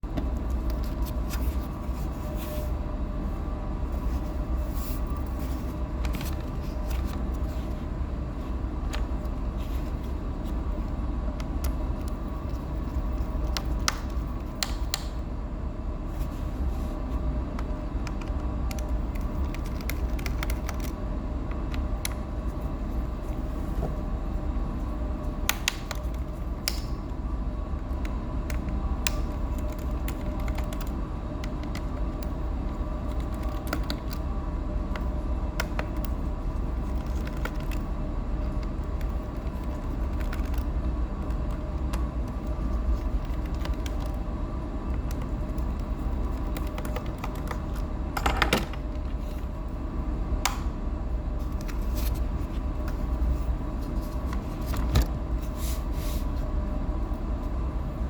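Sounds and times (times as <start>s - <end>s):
machinery hum: 0.0s - 58.0s.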